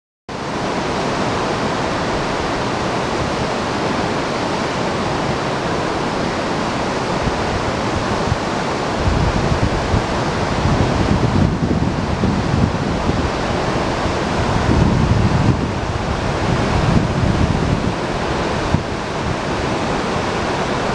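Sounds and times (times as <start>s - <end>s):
waterfall rushing: 0.3s - 20.9s
wind buffeting microphone: 0.4s - 20.9s.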